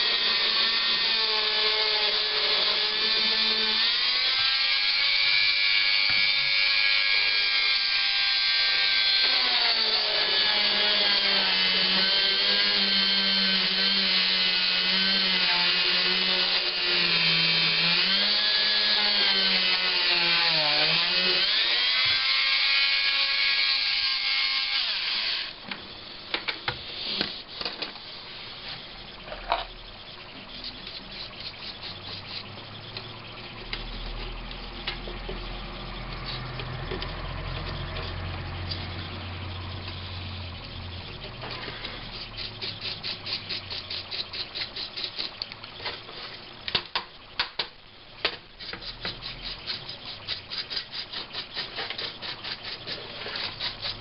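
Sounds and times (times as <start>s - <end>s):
rotary tool sanding plastic: 0.0s - 25.6s, 26.7s - 46.6s, 48.2s - 54.0s.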